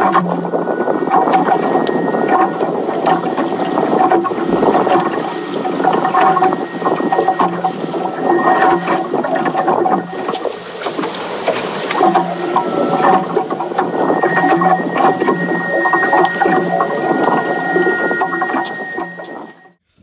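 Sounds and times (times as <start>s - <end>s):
water slapping against boat hull: 0.0s - 19.8s.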